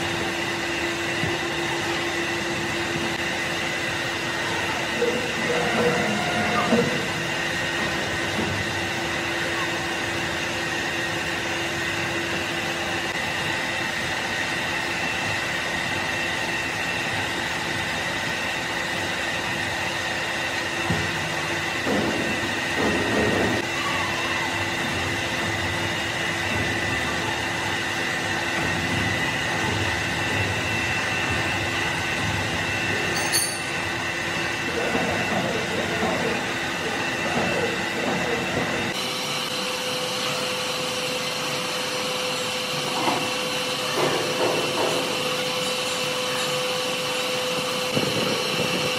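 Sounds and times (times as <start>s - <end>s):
workshop machinery humming: 0.0s - 48.9s.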